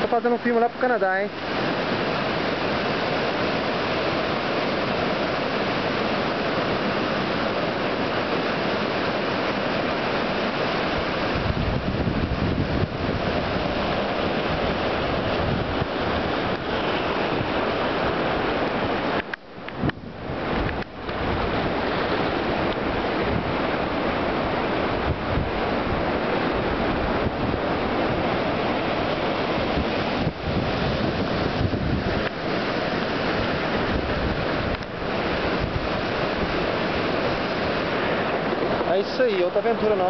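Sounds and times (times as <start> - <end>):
ocean surf breaking on boulders: 0.0 - 40.0
wind buffeting microphone: 1.4 - 40.0.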